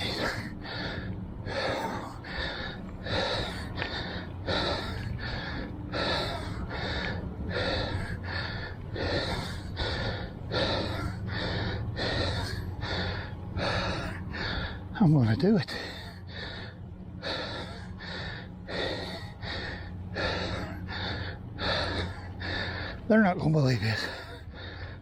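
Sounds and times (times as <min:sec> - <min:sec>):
man breathing hard and fast: 0:00.0 - 0:25.0.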